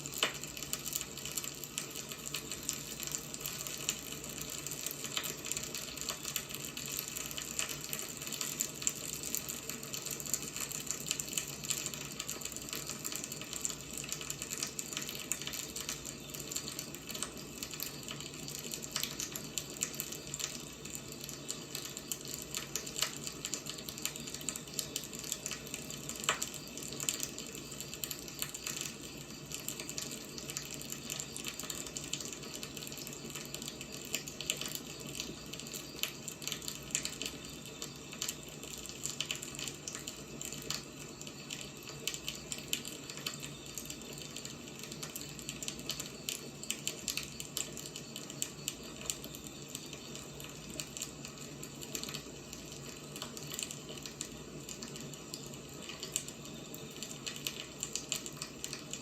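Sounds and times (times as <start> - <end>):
firewood burning and crackling: 0.0 - 59.0.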